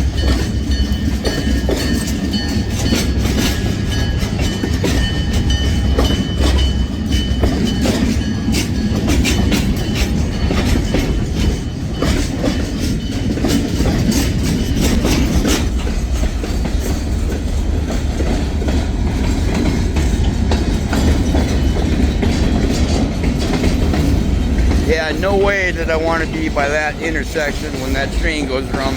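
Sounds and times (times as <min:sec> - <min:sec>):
train cars rumbling: 0:00.0 - 0:28.9
wheels clicking over rail joints: 0:00.0 - 0:28.9.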